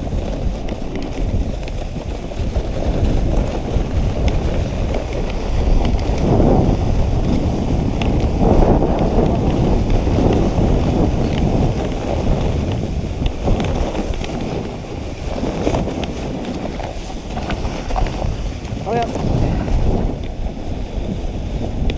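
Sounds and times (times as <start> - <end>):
sled runners on snow: 0.0 - 21.9
wind buffeting microphone: 0.0 - 21.9.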